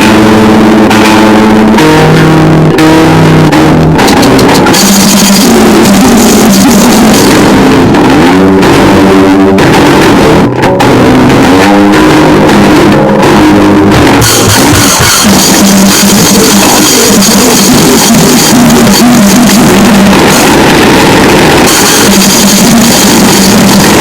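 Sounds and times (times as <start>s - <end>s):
distorted guitar and drums noise music: 0.0s - 24.0s.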